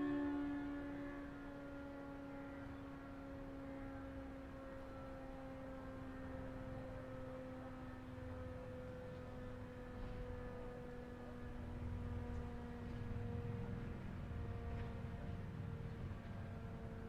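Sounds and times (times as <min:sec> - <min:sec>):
warning siren winding down: 0:00.0 - 0:14.7.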